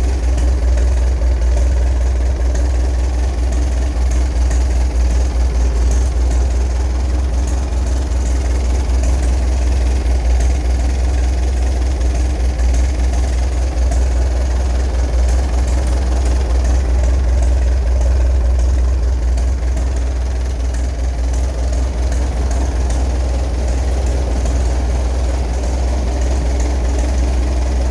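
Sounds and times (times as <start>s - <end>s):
tractor engine idling: 0.0s - 27.9s.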